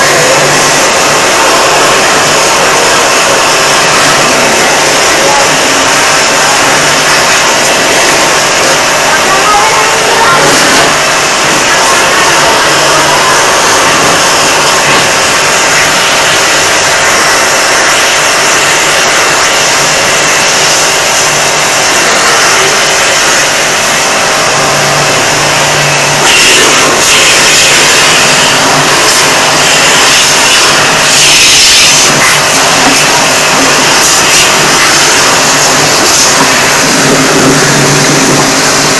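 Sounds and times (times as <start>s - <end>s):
jet washer motor hum: 0.0s - 38.9s
water jet spraying on plastic: 0.0s - 38.9s.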